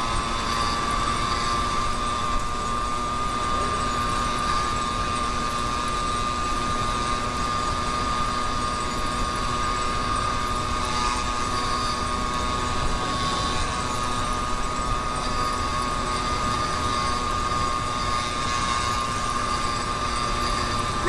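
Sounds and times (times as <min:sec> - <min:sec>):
two-stroke engine running: 0:00.0 - 0:21.0.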